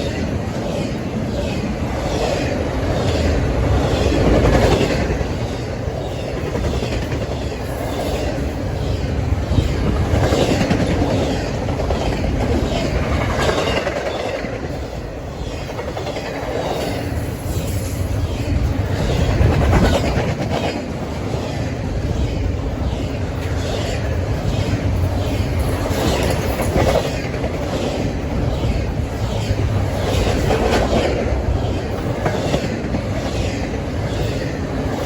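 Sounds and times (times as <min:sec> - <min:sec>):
freight train passing: 0:00.0 - 0:35.0
wind buffeting microphone: 0:00.0 - 0:35.0.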